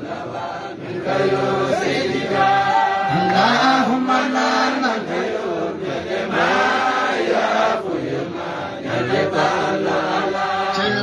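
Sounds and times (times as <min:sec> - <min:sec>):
men chanting devotional song: 0:00.0 - 0:11.0.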